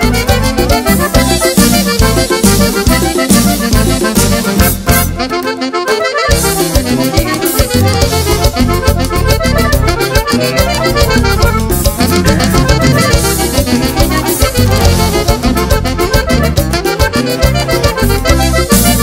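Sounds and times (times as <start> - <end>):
band music with accordion: 0.0 - 19.0.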